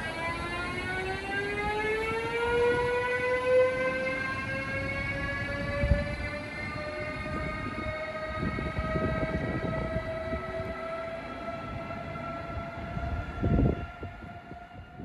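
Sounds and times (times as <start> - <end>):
electric locomotive whine: 0.0 - 15.0
train wheels rumbling: 0.0 - 15.0.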